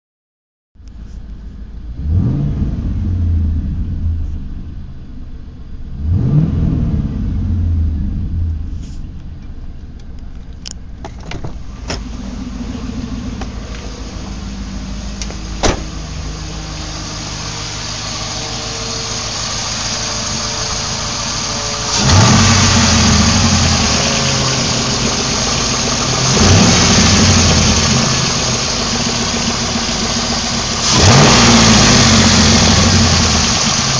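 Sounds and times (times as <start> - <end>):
car engine revving: 1.0 - 33.9.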